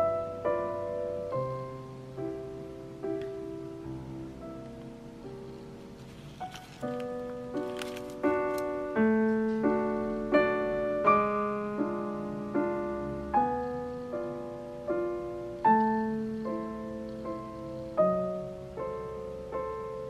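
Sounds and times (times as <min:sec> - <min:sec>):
slow piano melody: 0:00.0 - 0:20.0.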